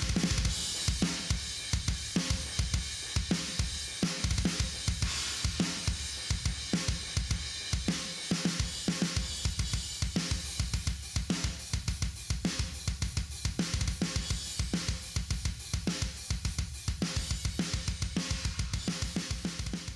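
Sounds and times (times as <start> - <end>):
fast metal drum beat: 0.0 - 19.9
steady cymbals: 0.0 - 19.9.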